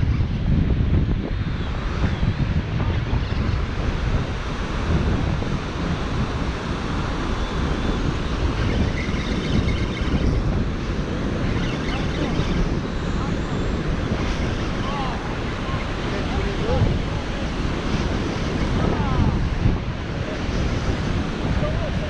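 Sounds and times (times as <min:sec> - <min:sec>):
wind buffeting microphone: 0:00.0 - 0:22.0
ocean surf breaking: 0:01.2 - 0:22.0.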